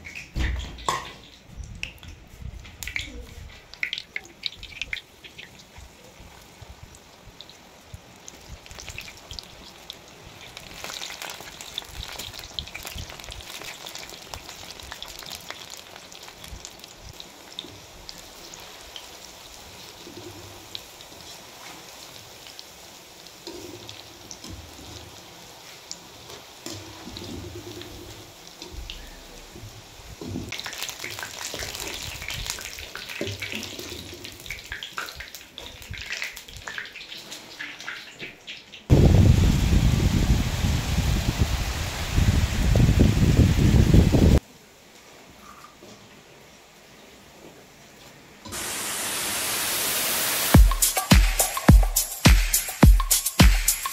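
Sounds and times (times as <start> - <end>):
oil sizzling and crackling: 0.0 - 47.0, 47.9 - 53.9.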